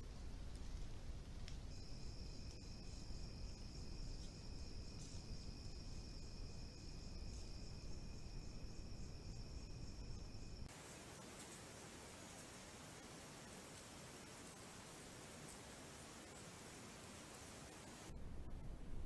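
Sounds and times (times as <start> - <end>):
night insects trilling: 1.6 - 18.1.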